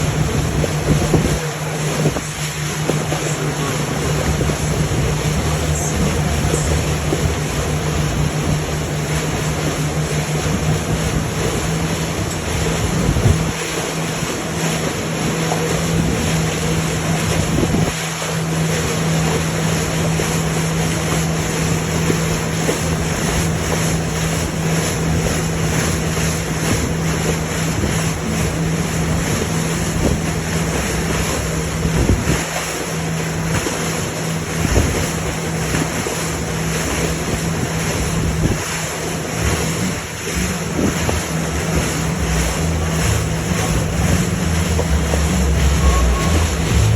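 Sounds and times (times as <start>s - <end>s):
wind buffeting microphone: 0.0s - 3.2s, 4.1s - 18.1s, 20.9s - 46.9s
low engine hum: 0.0s - 46.9s
water washing and splashing: 0.0s - 46.9s.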